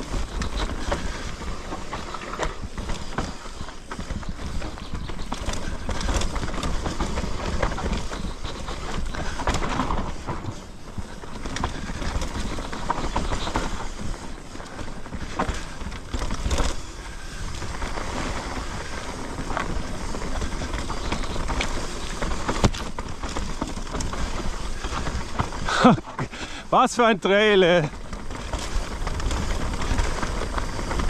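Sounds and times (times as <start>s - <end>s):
bike knocking and rattling: 0.0s - 31.0s
bike tyres rumbling on dirt: 0.0s - 31.0s.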